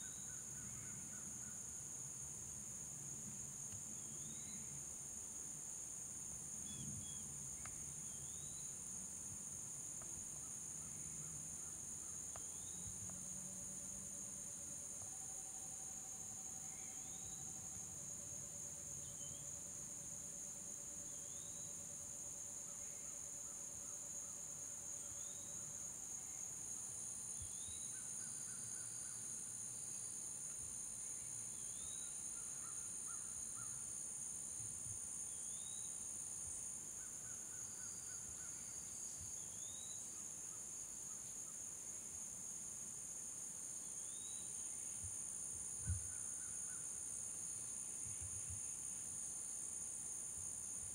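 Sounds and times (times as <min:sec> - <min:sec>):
insects chorus: 0:00.0 - 0:50.9.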